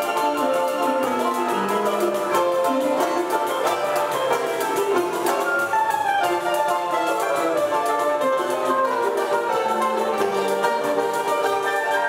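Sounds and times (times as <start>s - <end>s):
held flute tones: 0.0s - 12.0s
live acoustic ensemble playing: 0.0s - 12.0s
quick plucked string notes: 0.0s - 12.0s.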